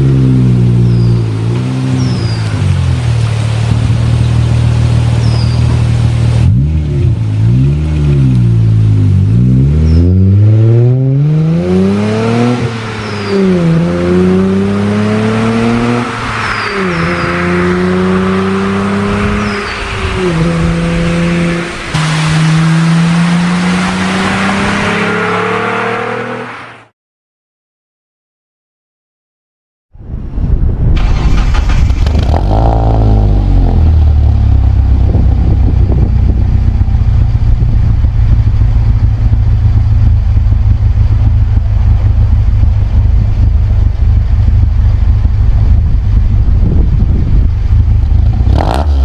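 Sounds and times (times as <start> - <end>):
car engine revving and accelerating: 0.0 - 26.9, 31.0 - 42.3, 42.9 - 49.0.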